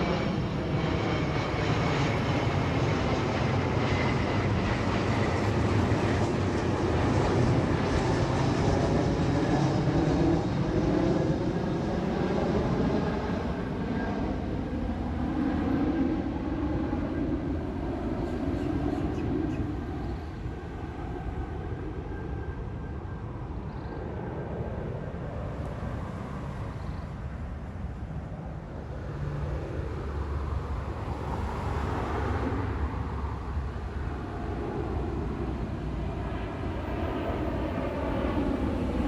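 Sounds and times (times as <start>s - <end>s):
jet airliner engines roaring: 0.0s - 39.0s.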